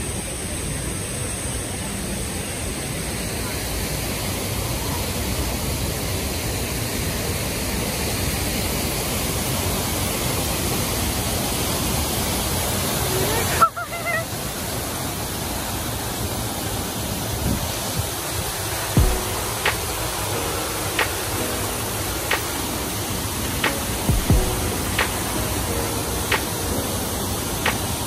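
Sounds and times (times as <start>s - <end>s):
waterfall splashing into pond: 2.4s - 28.0s.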